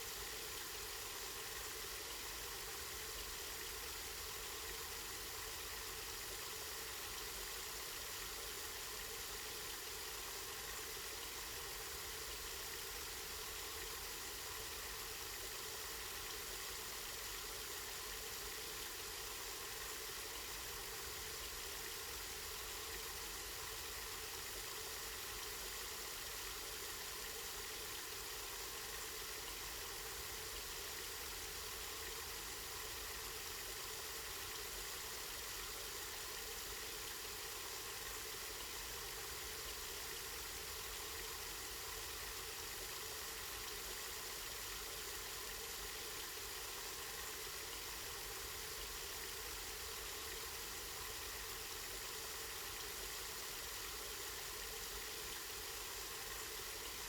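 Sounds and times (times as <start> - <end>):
spring water running: 0.1 - 57.0.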